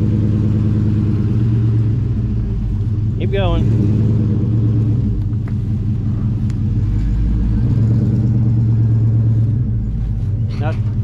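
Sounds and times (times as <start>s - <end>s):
vehicle engine rumbling at low speed: 0.0s - 11.0s.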